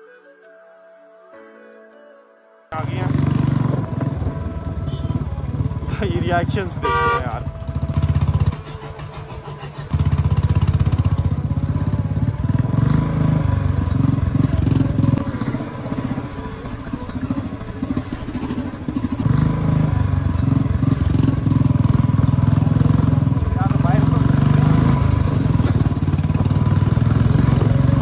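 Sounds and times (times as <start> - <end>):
motorcycle engine running: 2.8 - 28.0.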